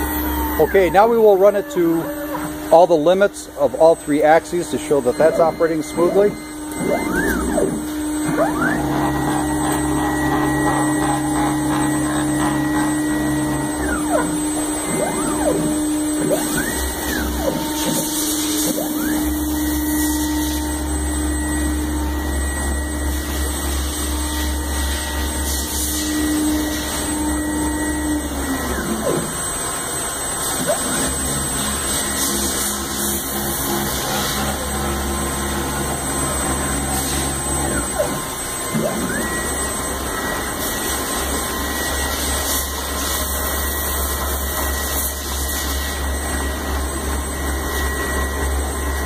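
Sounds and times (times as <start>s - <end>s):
motors whining up and down: 0.0s - 49.0s
steady machine hum: 0.0s - 49.0s.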